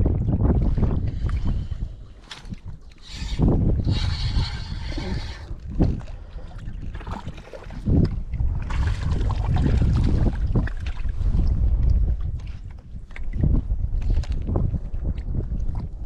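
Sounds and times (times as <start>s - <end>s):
water lapping: 0.0s - 16.0s
wind buffeting microphone: 0.0s - 16.0s.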